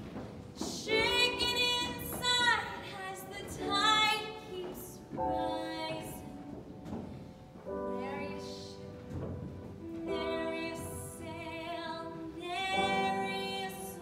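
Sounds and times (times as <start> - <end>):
woman singing: 0.6 - 6.5, 7.8 - 9.0, 9.8 - 14.0.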